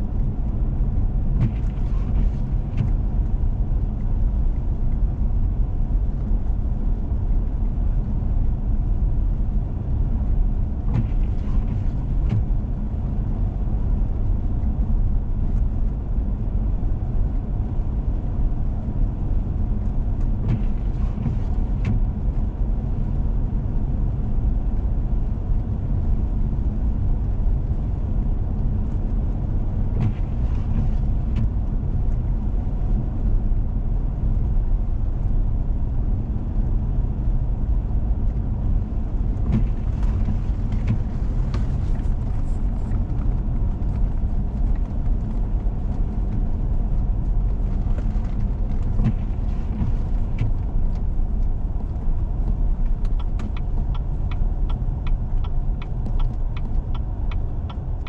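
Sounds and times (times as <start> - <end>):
vehicle engine and tyre rumble: 0.0 - 58.0.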